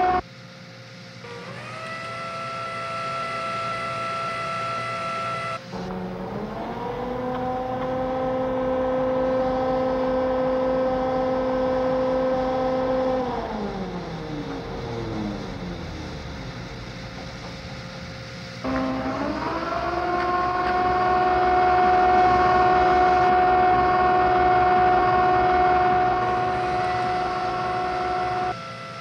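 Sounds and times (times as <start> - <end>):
machine whine: 0.0 - 29.0.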